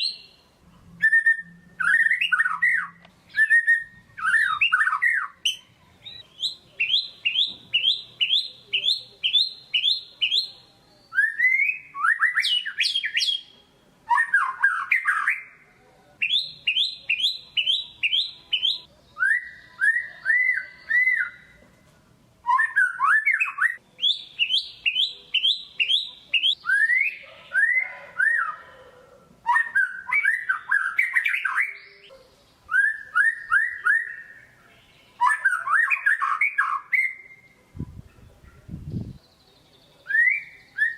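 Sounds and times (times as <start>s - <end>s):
bird singing whistled notes: 0.0s - 0.4s, 1.0s - 15.6s, 16.2s - 21.6s, 22.4s - 28.8s, 29.4s - 40.9s.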